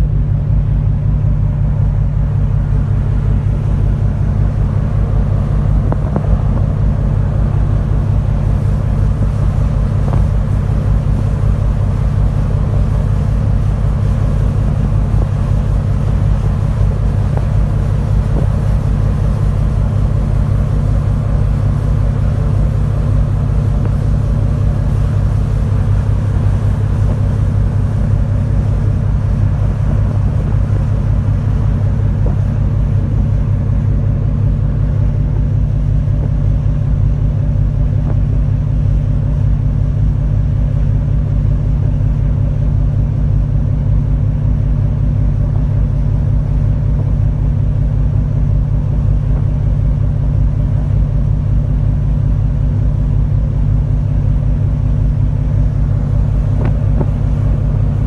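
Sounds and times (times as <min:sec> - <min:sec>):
ship diesel engines rumbling: 0:00.0 - 0:58.0.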